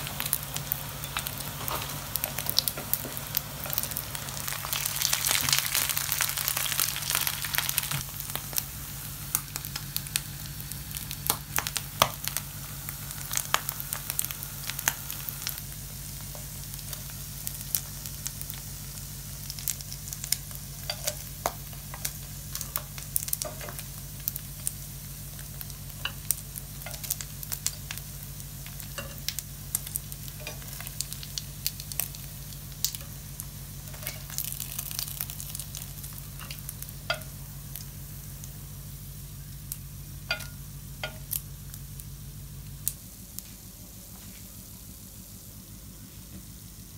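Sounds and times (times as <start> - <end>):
fish skin sizzling in oil: 0.0 - 42.0
low hum: 0.0 - 46.9.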